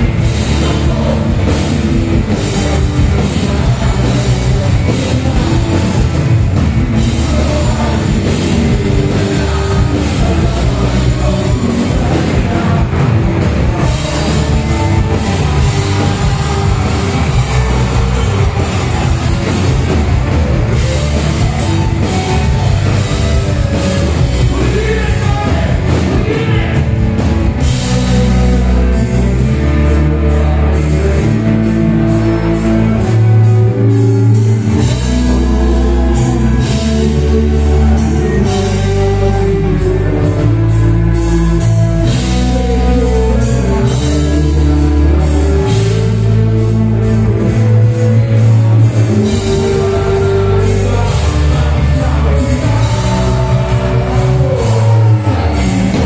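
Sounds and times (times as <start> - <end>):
bass guitar: 0.0 - 56.0
drums: 0.0 - 56.0
electric guitars: 0.0 - 56.0
person singing: 0.0 - 56.0.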